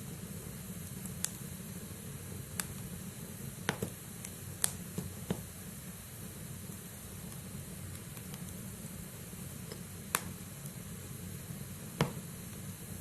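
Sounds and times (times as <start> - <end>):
fire crackling: 0.0 - 13.0
fire flames rumbling: 0.0 - 13.0
burning wood popping: 0.1 - 12.9.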